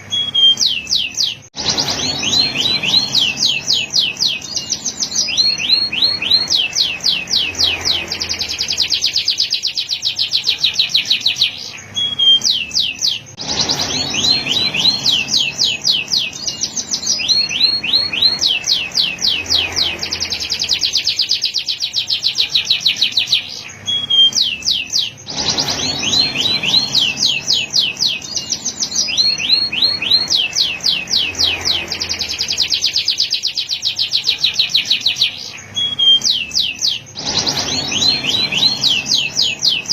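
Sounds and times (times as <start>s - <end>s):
canary singing high trills: 0.0s - 39.9s.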